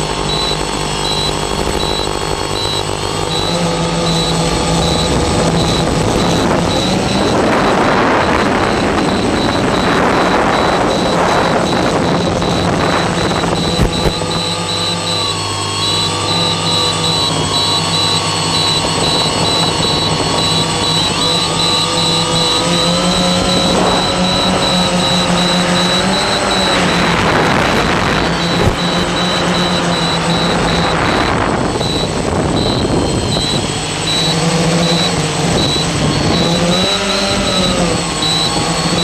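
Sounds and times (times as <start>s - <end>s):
drone propellers humming: 0.0s - 39.0s.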